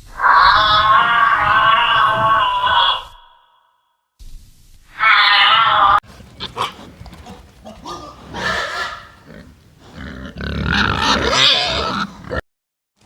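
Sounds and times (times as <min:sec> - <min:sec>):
animal calls: 0:00.1 - 0:03.5, 0:05.0 - 0:12.4.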